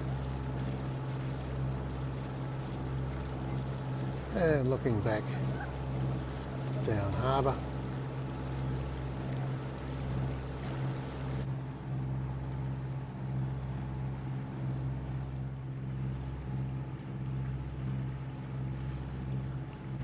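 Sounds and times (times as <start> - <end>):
boat diesel engine droning: 0.0 - 20.0.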